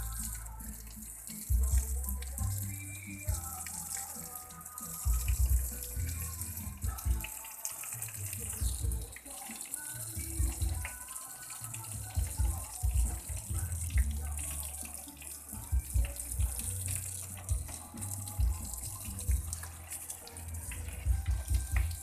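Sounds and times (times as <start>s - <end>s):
water running and splashing: 0.0s - 22.0s.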